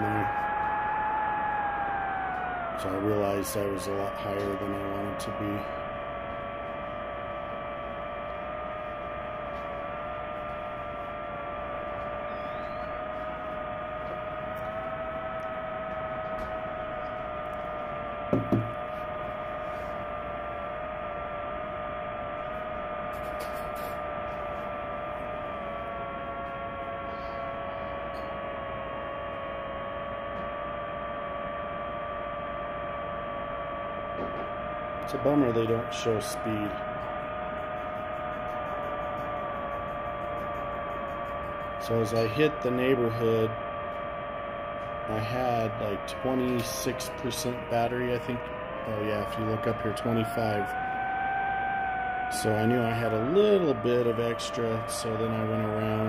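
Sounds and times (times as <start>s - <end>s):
drone motors whining: 0.0s - 56.0s.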